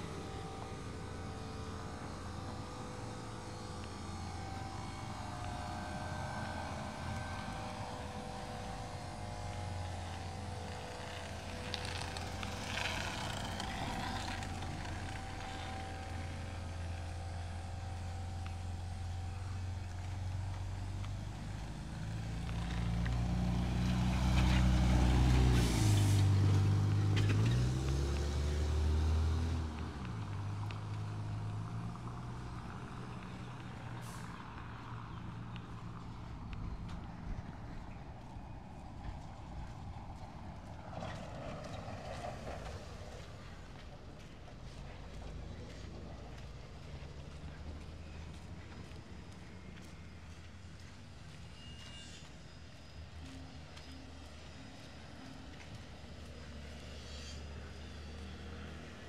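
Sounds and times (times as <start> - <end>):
vehicle engine passing: 0.0 - 59.0.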